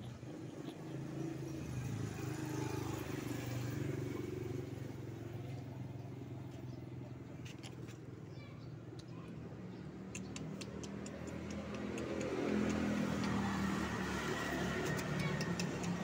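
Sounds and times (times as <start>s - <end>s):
road noise: 0.0s - 16.0s
vehicle engine hum: 0.0s - 16.0s.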